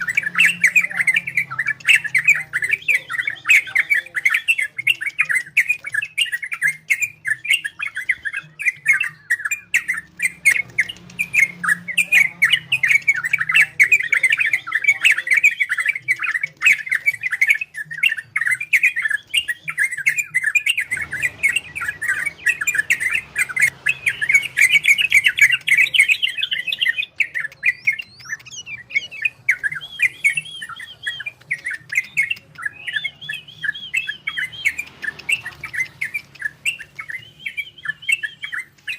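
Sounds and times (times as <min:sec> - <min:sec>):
bird singing chattering warble: 0:00.0 - 0:38.9.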